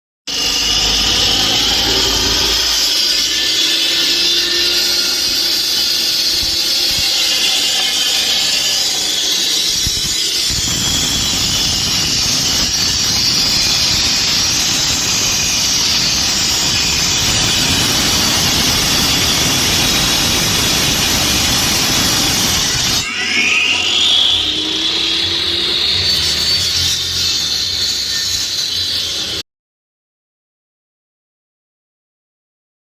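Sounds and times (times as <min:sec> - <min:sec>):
concrete cutting saw whining: 0:00.3 - 0:29.4
low grinding noise: 0:00.3 - 0:29.4.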